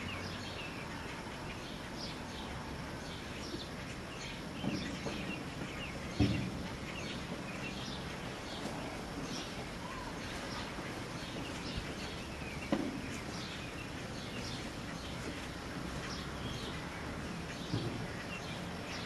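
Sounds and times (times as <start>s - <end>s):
outdoor background hiss: 0.0s - 19.0s
small birds chirping: 0.0s - 19.0s.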